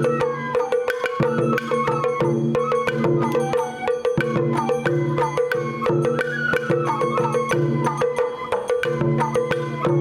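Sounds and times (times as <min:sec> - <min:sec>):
bamboo flute melody: 0:00.0 - 0:10.0.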